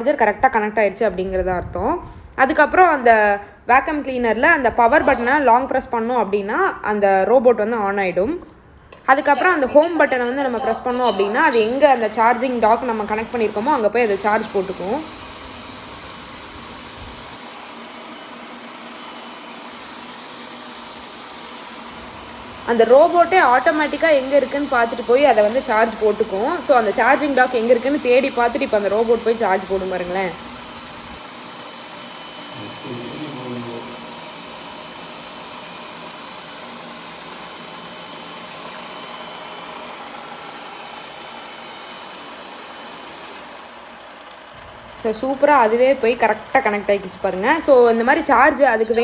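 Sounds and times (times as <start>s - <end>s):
robot vacuum motor whirring: 2.4s - 49.0s.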